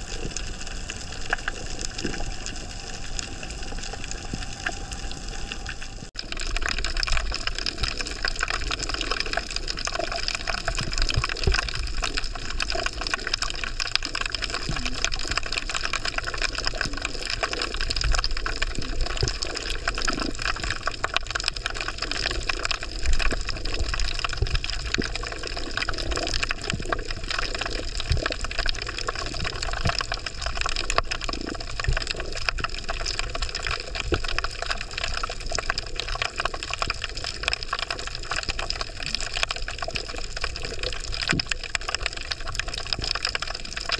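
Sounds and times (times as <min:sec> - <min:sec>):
crackle of tiny clicks: 0:00.0 - 0:43.9
rushing water underwater: 0:00.0 - 0:43.9.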